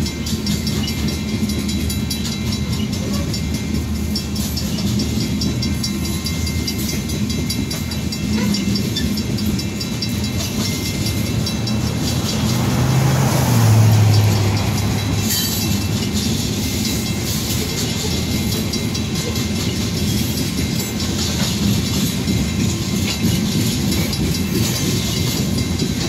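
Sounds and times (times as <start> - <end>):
crossing bell ringing rapidly: 0.0 - 26.0
steel wheels rumbling on rail: 0.0 - 26.0
wheel clatter over rail joints: 0.0 - 26.0.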